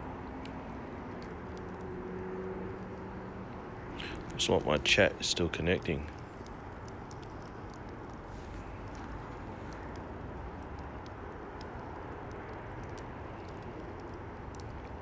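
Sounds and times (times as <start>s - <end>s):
wood fire crackling and popping: 0.0s - 15.0s
steady low background noise: 2.8s - 15.0s.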